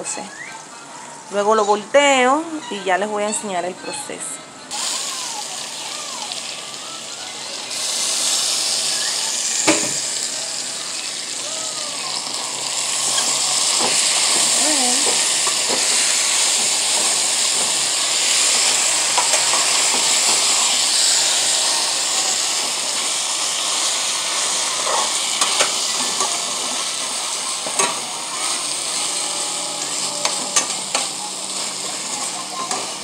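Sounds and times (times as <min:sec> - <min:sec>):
chicken sizzling in a pot: 0:04.7 - 0:33.0.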